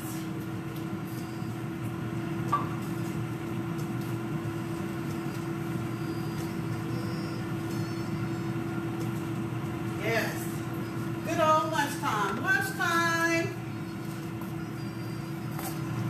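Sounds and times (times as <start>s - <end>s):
air fryer fan humming: 0.0s - 16.0s.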